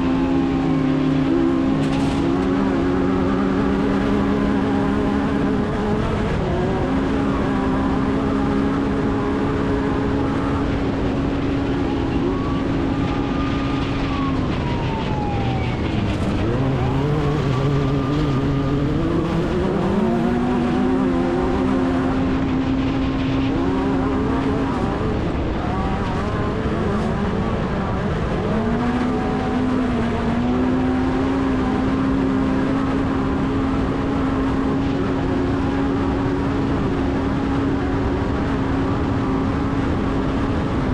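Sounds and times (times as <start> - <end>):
race vehicle engine running hard: 0.0 - 40.9.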